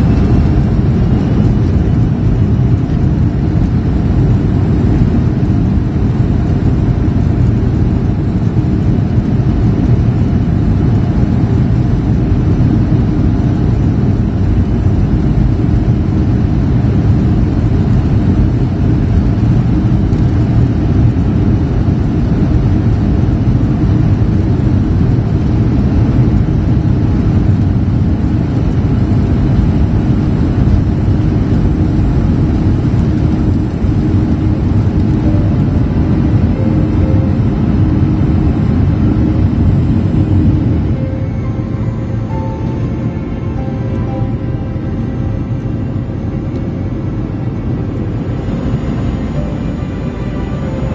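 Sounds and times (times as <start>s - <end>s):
jet engine roar inside cabin: 0.0s - 50.9s.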